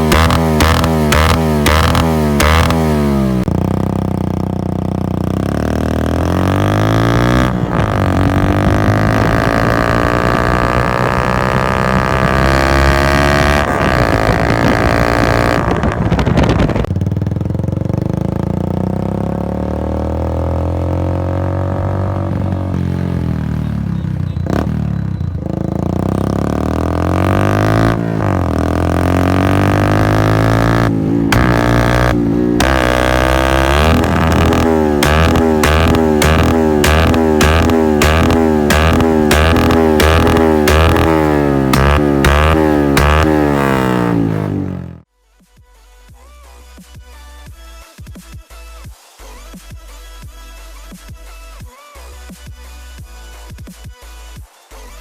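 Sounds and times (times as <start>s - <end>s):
motorcycle engine accelerating: 0.0s - 45.1s.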